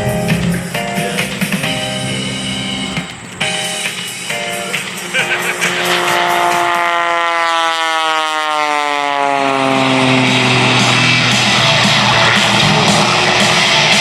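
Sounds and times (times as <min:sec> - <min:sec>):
biplane engine passing by: 0:00.0 - 0:14.0.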